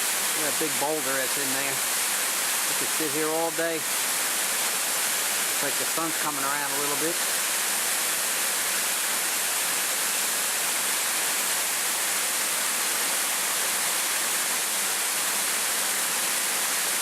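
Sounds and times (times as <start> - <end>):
waterfall crashing: 0.0 - 17.0.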